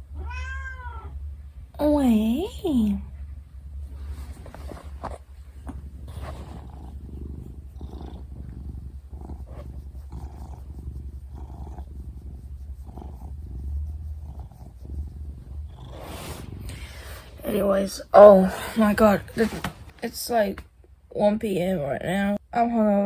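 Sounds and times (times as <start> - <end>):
cat purring: 1.2 - 20.5.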